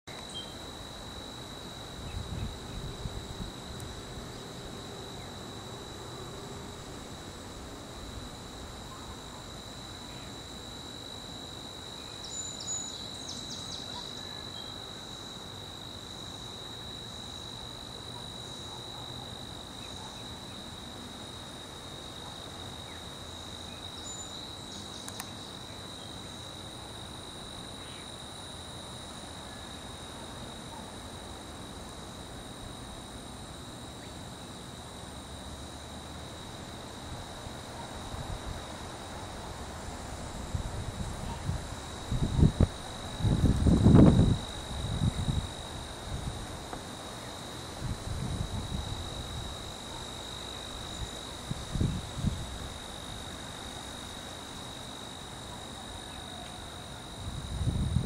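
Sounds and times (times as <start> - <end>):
insects trilling: 0.1 - 58.0.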